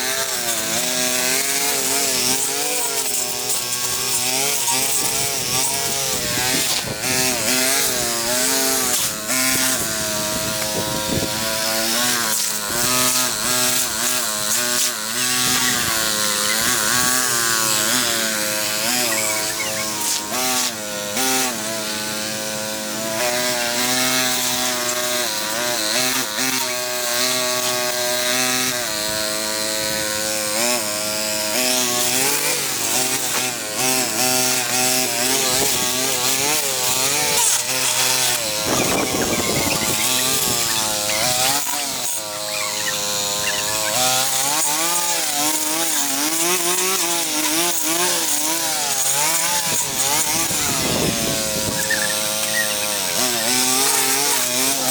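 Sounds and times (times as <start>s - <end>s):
petrol cutting tool running: 0.0s - 54.9s.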